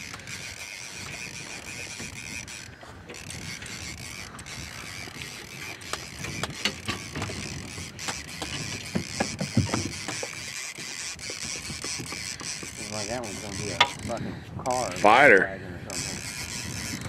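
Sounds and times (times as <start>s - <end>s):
fishing reel creaking and ticking: 0.0s - 17.0s
sharp reel clicks: 0.0s - 17.0s.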